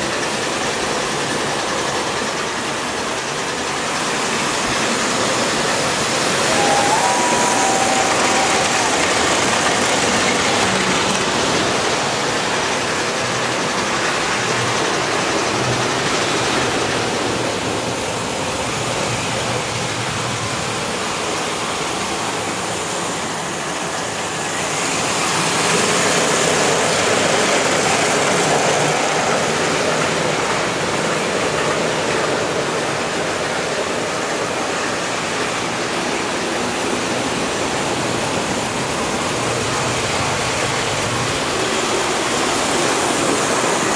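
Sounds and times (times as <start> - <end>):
model trains running on metal track: 0.0 - 43.9.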